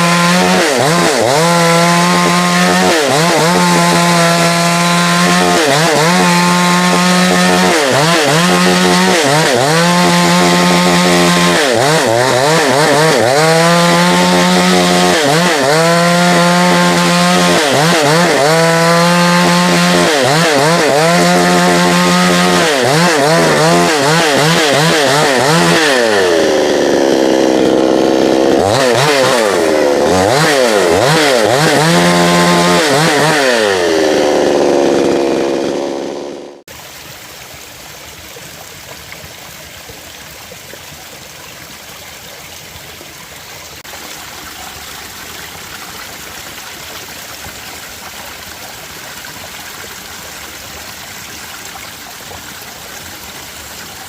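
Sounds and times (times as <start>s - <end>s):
chainsaw engine revving: 0.0s - 36.7s, 43.4s - 54.0s.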